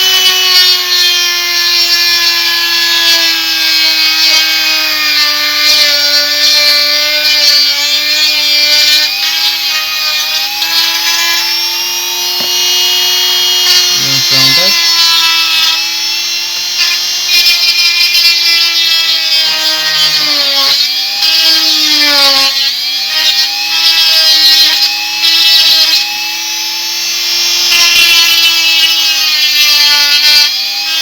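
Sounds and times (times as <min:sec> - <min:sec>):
rotary tool grinding whine: 0:00.0 - 0:31.0.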